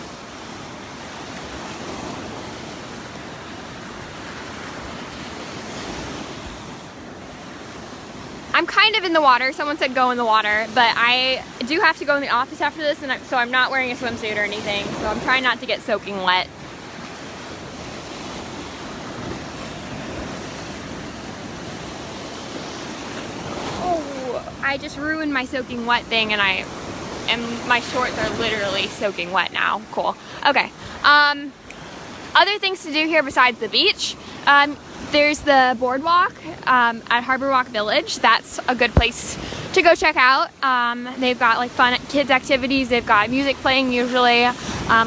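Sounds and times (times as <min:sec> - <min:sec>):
small waves washing on sand: 0:00.0 - 0:45.0.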